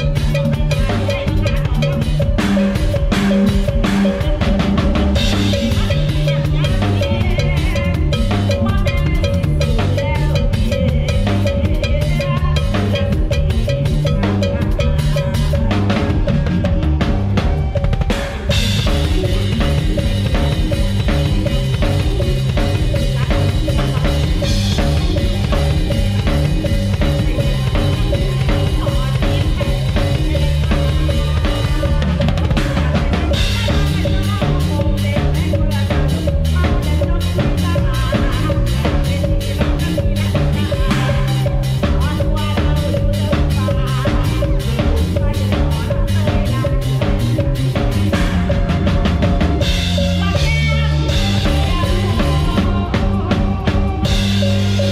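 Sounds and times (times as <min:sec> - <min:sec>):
bass drum strokes: 0:00.0 - 0:54.9
live band playing: 0:00.0 - 0:54.9.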